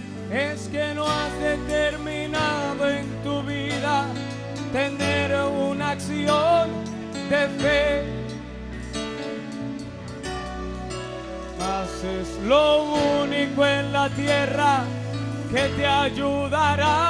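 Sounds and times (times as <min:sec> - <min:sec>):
man singing into microphone: 0:00.0 - 0:08.6, 0:11.6 - 0:17.0
band with steady bass line: 0:00.0 - 0:17.0.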